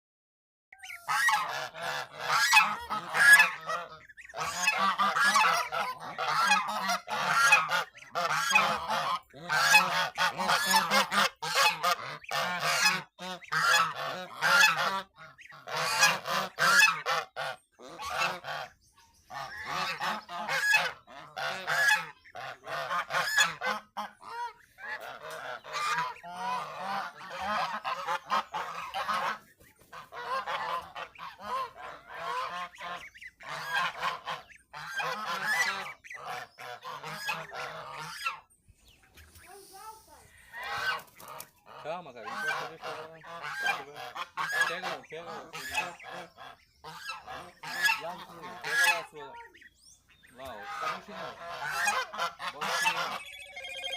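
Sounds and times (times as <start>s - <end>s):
farmyard fowl calling: 0.7s - 53.9s.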